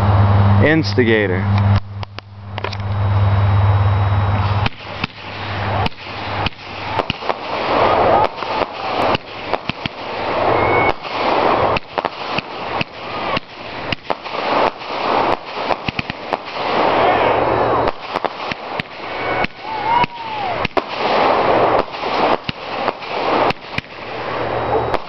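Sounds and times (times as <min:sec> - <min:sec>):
fireworks cake firing: 0:04.4 - 0:25.0.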